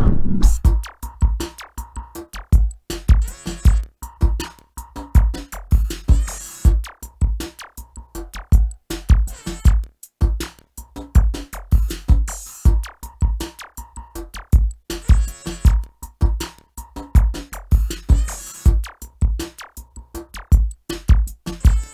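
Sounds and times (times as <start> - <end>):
drum machine beat: 0.5 - 21.9.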